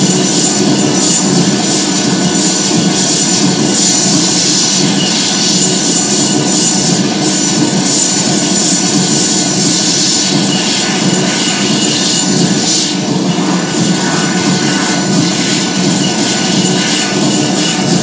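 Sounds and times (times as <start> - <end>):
electronic noise music: 0.0 - 18.0.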